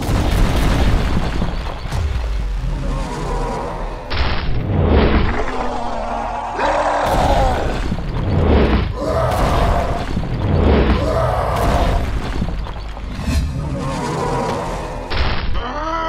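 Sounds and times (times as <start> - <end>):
heavy cartoon thuds and booms: 0.0 - 5.6, 7.0 - 15.6.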